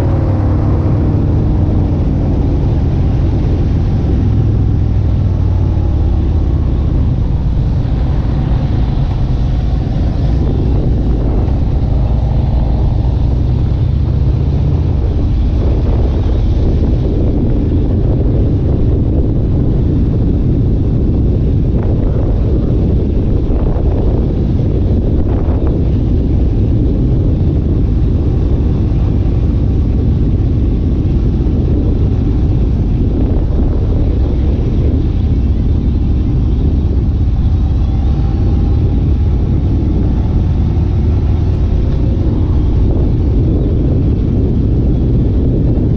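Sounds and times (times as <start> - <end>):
vehicle engine low rumble: 0.0 - 45.9.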